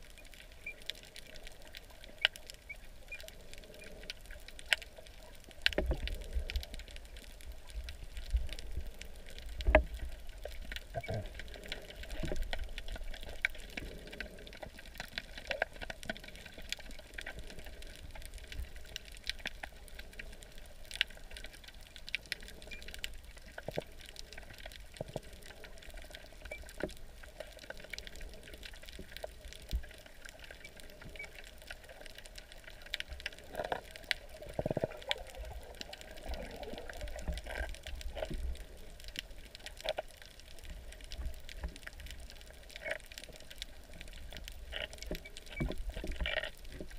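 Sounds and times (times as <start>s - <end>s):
crackling clicks: 0.0s - 46.9s
underwater gurgling water: 0.0s - 46.9s.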